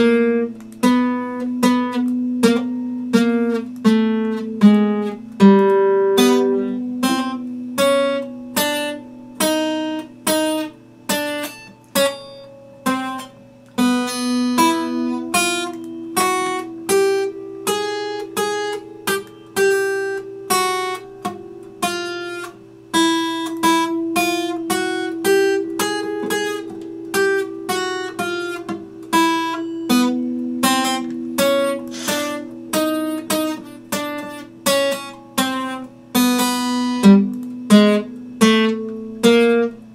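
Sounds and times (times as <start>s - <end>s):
acoustic guitar played slowly: 0.0s - 39.9s.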